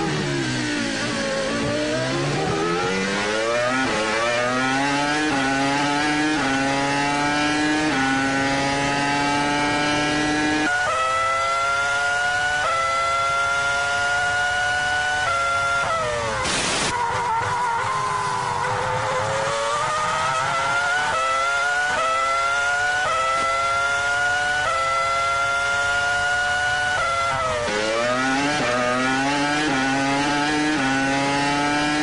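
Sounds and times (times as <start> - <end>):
racing car engine shifting gears: 0.0 - 16.9, 18.5 - 32.0.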